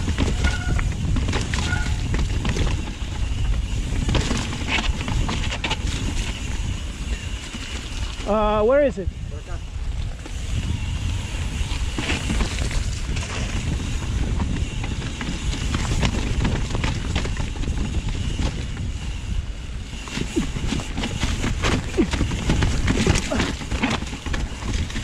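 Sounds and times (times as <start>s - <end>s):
bike knocks and rattles: 0.0s - 8.6s, 9.9s - 25.0s
tyres rolling on trail: 0.0s - 25.0s
wind on microphone: 0.0s - 25.0s.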